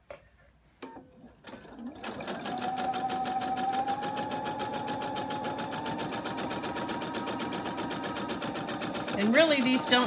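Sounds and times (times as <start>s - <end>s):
electric sewing machine running: 1.4s - 10.0s.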